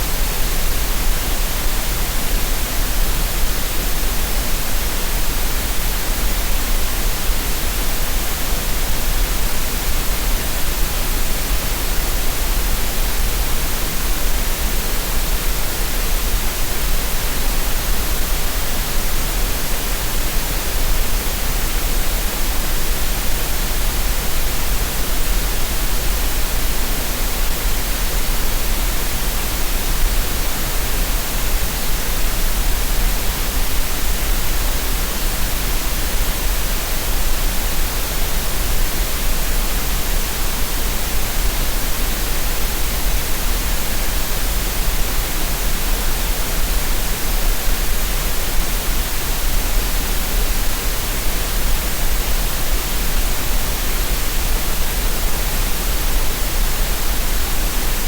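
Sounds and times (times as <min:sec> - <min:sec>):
green noise hiss with deep rumble: 0:00.0 - 0:58.0.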